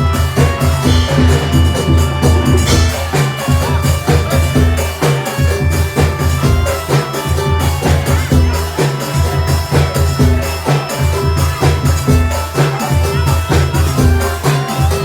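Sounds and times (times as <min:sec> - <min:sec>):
driving drum beat: 0:00.0 - 0:15.0
heavy pulsing bass: 0:00.0 - 0:15.0.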